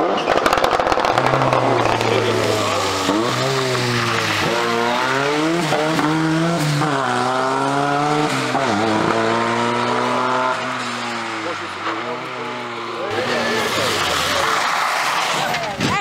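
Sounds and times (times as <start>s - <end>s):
rally car engine accelerating: 0.0s - 15.7s.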